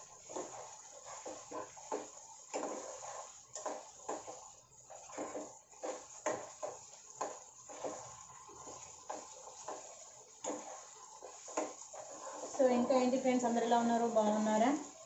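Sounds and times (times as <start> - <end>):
faint sizzle: 0.0 - 15.0
spoon scraping a pan: 0.0 - 15.0.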